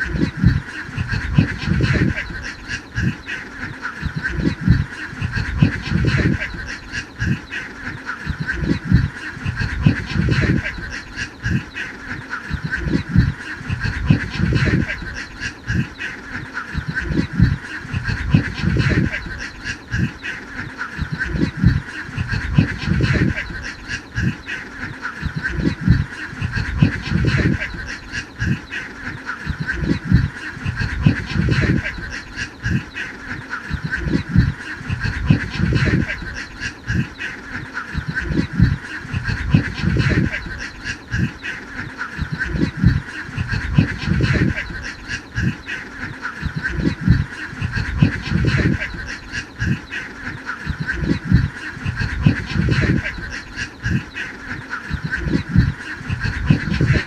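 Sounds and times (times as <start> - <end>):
ducks quacking: 0.0 - 57.0.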